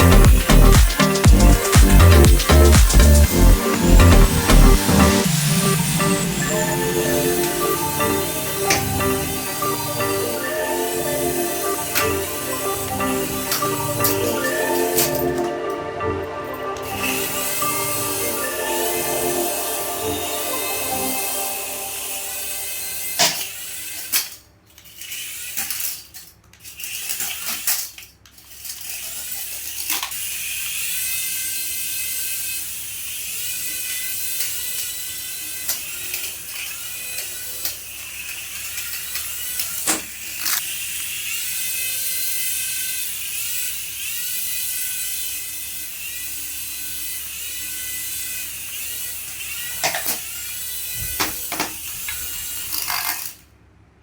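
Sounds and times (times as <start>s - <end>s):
toy electric motor whining: 0.0s - 15.9s, 16.8s - 53.5s.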